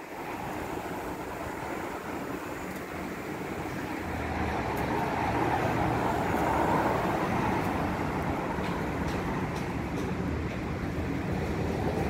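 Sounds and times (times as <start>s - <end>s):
car passing: 0.0s - 12.0s.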